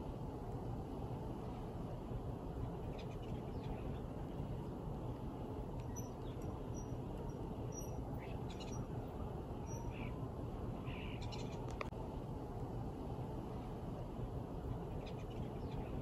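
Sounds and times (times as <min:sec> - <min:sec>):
small birds chirping faintly: 0:00.3 - 0:12.0, 0:14.3 - 0:16.0.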